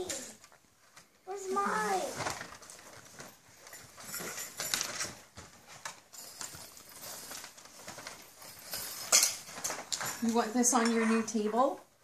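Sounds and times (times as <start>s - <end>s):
rustling of toys: 0.0s - 12.0s.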